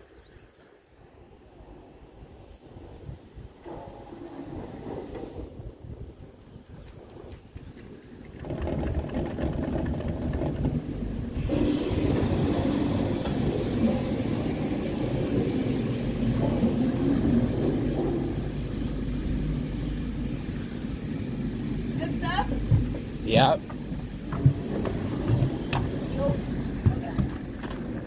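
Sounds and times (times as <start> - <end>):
chairlift machinery rumble and whir: 2.4 - 28.0.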